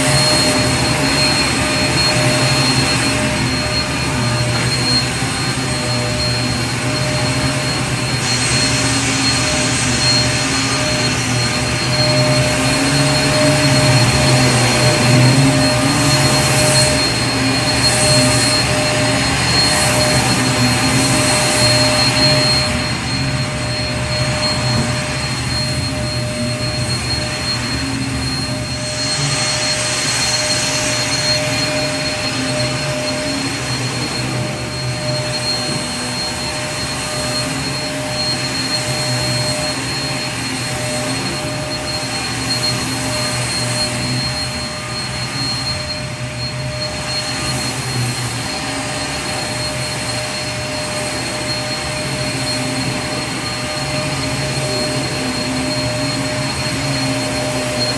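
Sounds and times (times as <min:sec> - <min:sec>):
vacuum cleaner running: 0:00.0 - 0:57.9.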